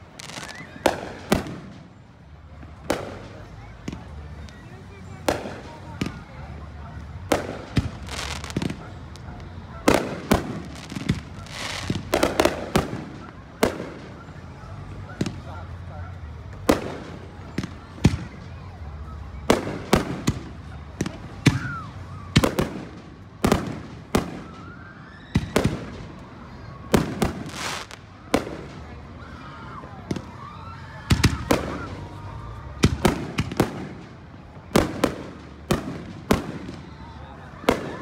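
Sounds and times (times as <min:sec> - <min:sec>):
fireworks booming: 0:00.0 - 0:01.9, 0:05.1 - 0:15.9, 0:16.5 - 0:26.2, 0:26.8 - 0:28.9, 0:31.1 - 0:38.0.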